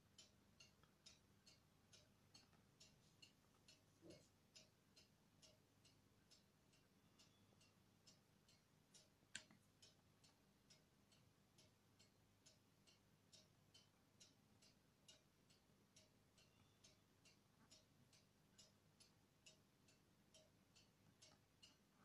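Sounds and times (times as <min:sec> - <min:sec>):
faint even ticking: 0:00.0 - 0:22.0.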